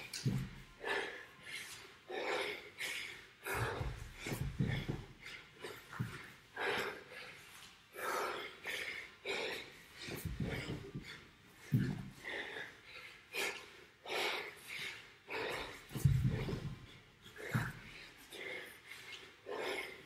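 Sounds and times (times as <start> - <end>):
man breathing hard: 0.0 - 20.0.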